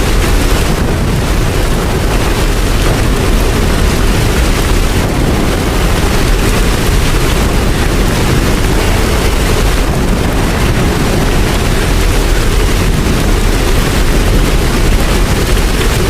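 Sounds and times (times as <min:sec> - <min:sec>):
deep rumble: 0:00.0 - 0:16.0
heavy rain: 0:00.0 - 0:16.0.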